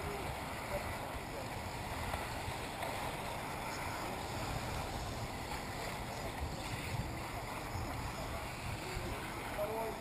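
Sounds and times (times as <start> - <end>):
steady background hiss: 0.0 - 10.0
wind buffeting the microphone: 0.0 - 10.0.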